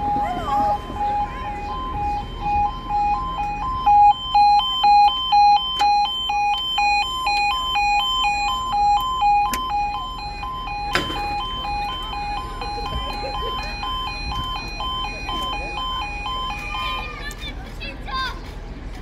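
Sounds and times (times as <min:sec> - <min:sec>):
two-tone crossing alarm: 0:00.0 - 0:17.2.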